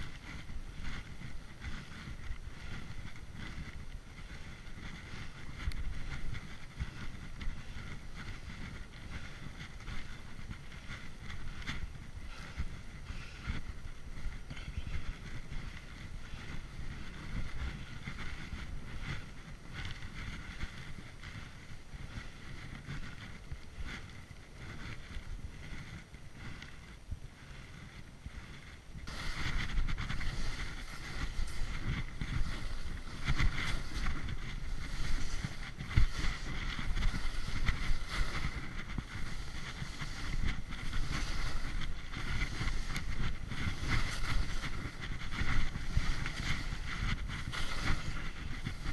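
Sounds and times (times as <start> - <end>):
skis running over snow: 0.0 - 48.9
wind on microphone: 0.0 - 48.9.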